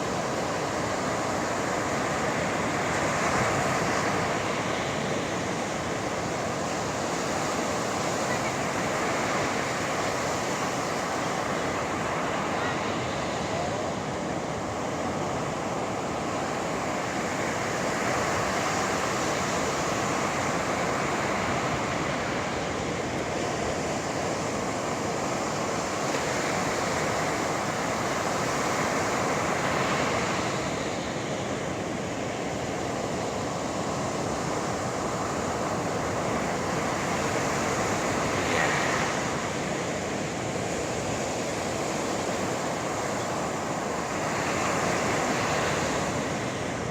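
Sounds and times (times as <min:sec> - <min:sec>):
waves breaking on shore: 0:00.0 - 0:46.9.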